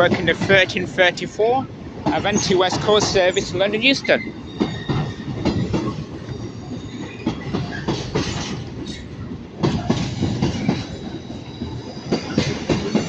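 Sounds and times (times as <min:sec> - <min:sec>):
train rumble: 0:00.0 - 0:13.0
train wheels clattering over rails: 0:00.0 - 0:13.0.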